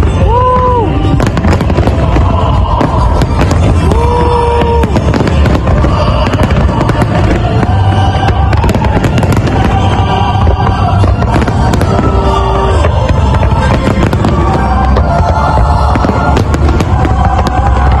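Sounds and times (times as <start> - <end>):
fireworks bangs and crackles: 0.0 - 18.0
heavy low rumble: 0.0 - 18.0
music playing: 0.0 - 18.0.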